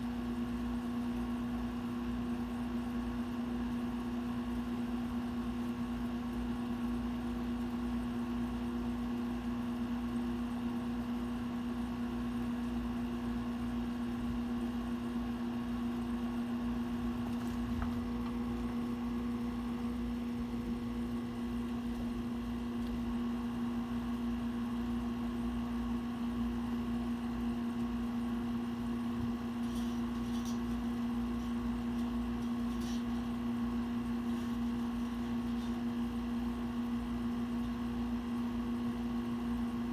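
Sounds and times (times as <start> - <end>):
steady appliance hum: 0.0 - 39.9.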